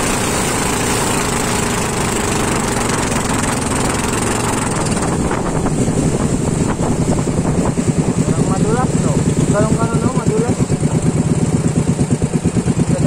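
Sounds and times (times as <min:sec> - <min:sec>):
motorboat engine running: 0:00.0 - 0:13.0
water rushing along hull: 0:00.0 - 0:13.0.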